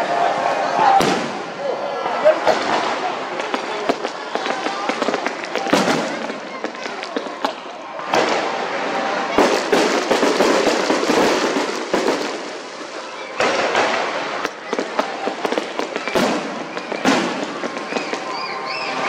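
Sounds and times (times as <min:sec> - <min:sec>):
fireworks crackling: 0:00.1 - 0:19.0
firework bangs: 0:00.8 - 0:19.0.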